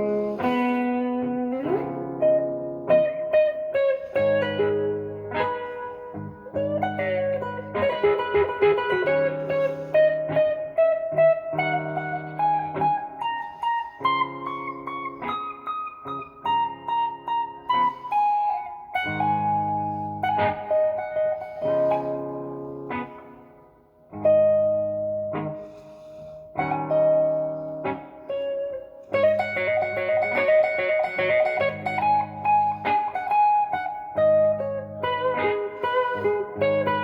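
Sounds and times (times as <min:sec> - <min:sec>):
overdriven electric guitar blues lead: 0:00.0 - 0:37.0.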